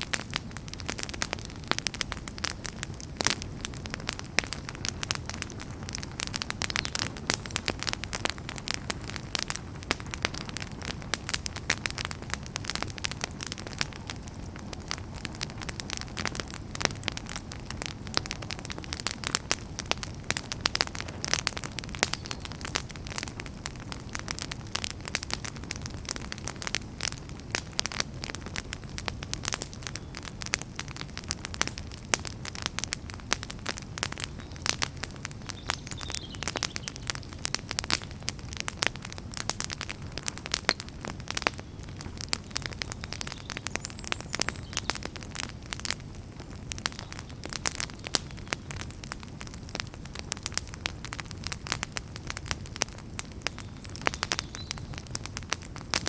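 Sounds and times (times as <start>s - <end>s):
firewood crackling and popping: 0.0s - 56.0s
low rumble of flames: 0.0s - 56.0s.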